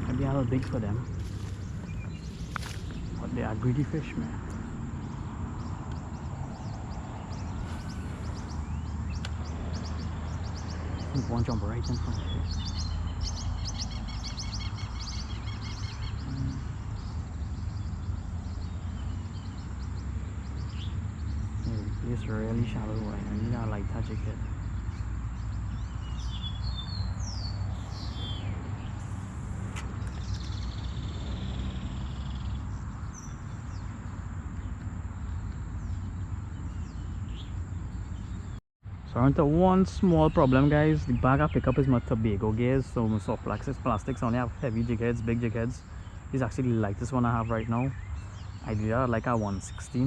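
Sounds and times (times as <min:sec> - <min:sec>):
steady low rumble: 0:00.0 - 0:47.5
bird chirping: 0:00.0 - 0:50.0.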